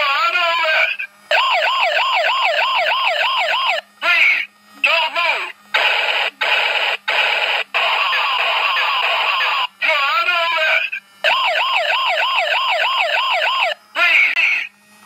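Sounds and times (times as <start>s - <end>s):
toy electronic siren: 0.5s - 5.1s, 5.8s - 14.7s.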